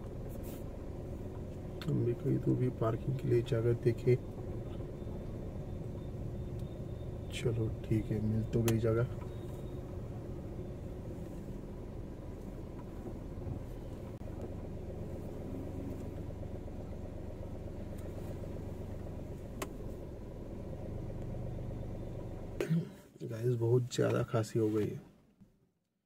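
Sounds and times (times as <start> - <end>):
car engine running: 0.0 - 22.8.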